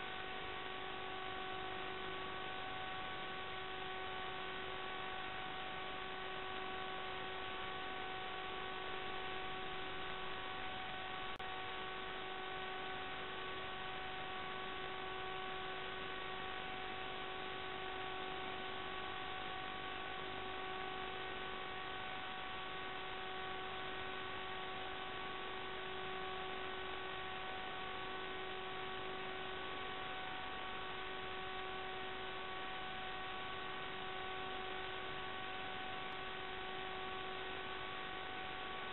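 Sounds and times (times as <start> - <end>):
constant hiss: 0.0 - 38.9
electrical hum: 0.0 - 38.9.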